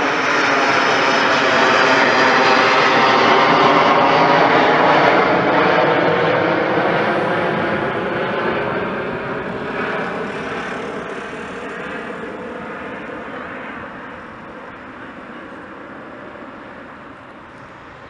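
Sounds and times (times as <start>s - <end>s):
jet flying overhead: 0.0s - 18.0s.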